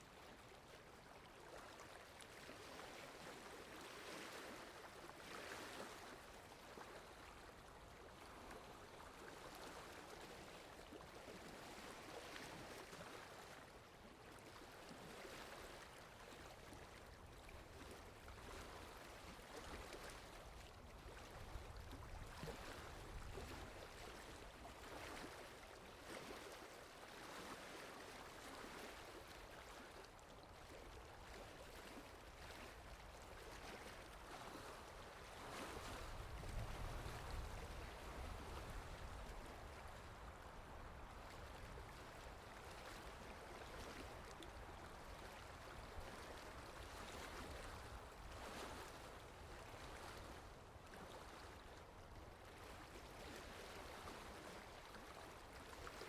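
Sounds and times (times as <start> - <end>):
water lapping: 0.0 - 56.0
wind: 0.0 - 56.0.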